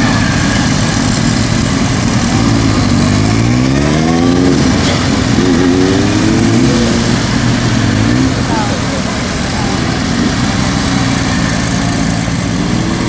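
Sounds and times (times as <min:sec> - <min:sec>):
motorcycle engine revving: 0:00.0 - 0:13.0
motorcycle engines running: 0:00.0 - 0:13.0.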